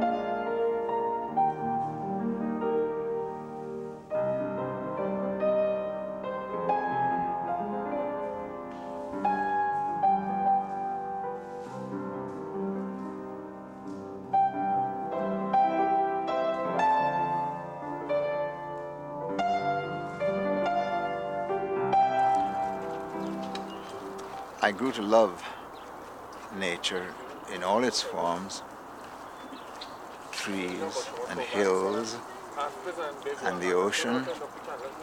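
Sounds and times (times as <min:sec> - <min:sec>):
solo piano piece: 0:00.0 - 0:35.0.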